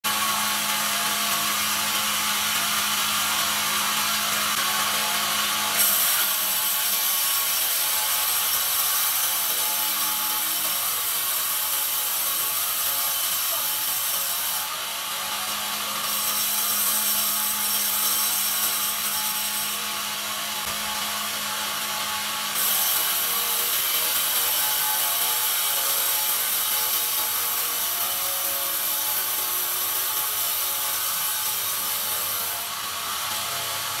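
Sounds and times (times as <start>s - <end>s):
sawmill machine hum: 0.0s - 34.0s
bandsaw blade rasping through log: 0.1s - 34.0s.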